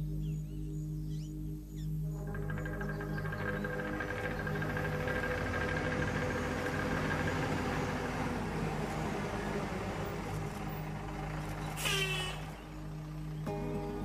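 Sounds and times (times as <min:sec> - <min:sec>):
bus engine running: 0:02.1 - 0:14.0.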